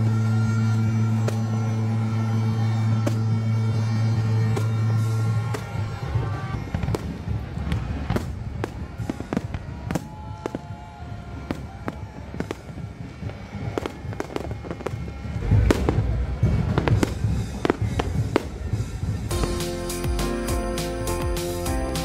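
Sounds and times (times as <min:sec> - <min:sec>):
music playing: 0:00.0 - 0:10.6, 0:13.6 - 0:22.0
fireworks bangs: 0:00.0 - 0:22.0.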